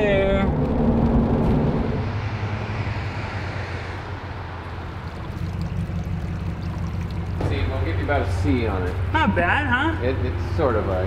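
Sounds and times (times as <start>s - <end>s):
road noise inside vehicle: 0.0s - 11.0s.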